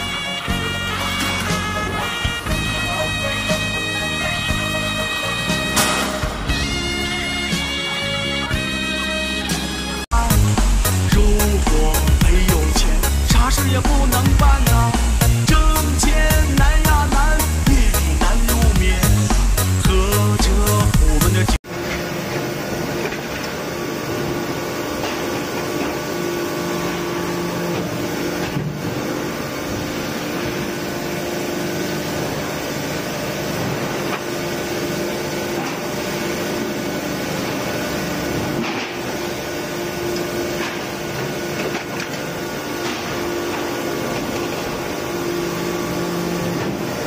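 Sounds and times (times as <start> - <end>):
press machine humming: 0.0 - 47.0.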